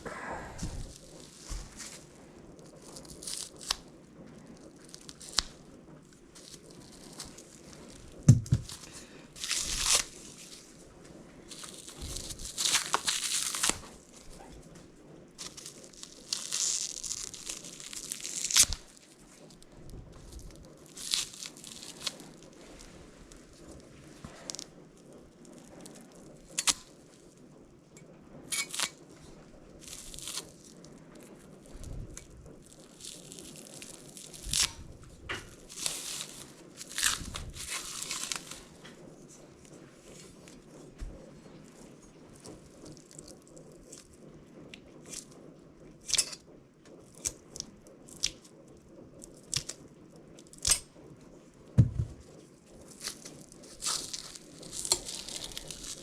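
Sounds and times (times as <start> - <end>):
plastic wrap tearing and crinkling: 0.0 - 10.8, 11.4 - 14.7, 15.4 - 27.1, 28.5 - 44.1, 49.2 - 49.8, 52.9 - 56.0.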